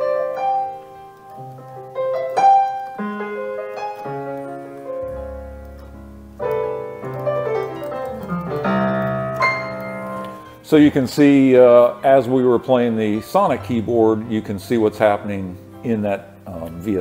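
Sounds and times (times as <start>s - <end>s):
piano chords and notes: 0.0s - 17.0s.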